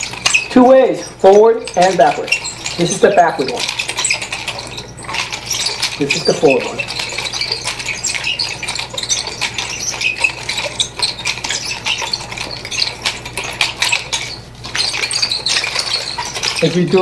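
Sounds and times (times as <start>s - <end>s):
low electrical hum: 0.0s - 17.0s
nunchaku clicking and rattling: 0.0s - 17.0s.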